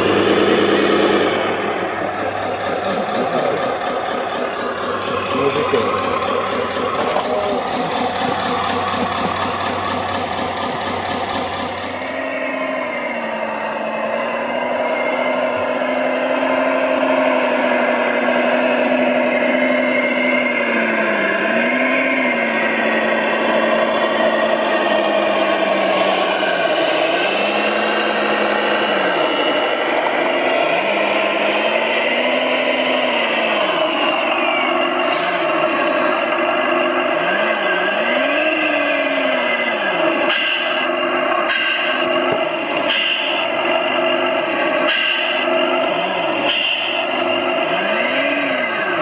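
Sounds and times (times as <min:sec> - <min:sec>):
electric motor and gear whine: 0:00.0 - 0:49.0
rough rc machinery noise: 0:00.0 - 0:49.0.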